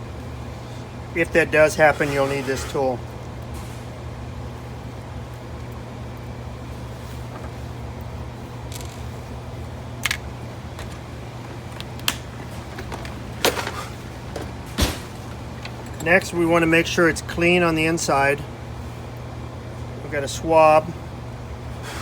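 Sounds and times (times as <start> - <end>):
ventilation hum: 0.0 - 22.0.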